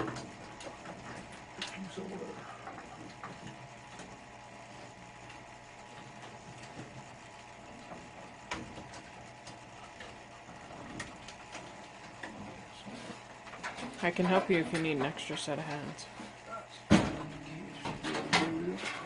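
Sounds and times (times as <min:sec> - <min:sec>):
quiet machine hum: 0:00.0 - 0:19.0.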